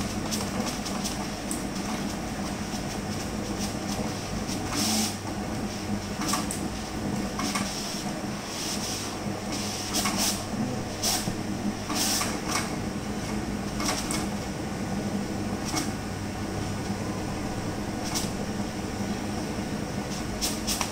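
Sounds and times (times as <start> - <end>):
printer motors and fans humming: 0.0 - 20.9.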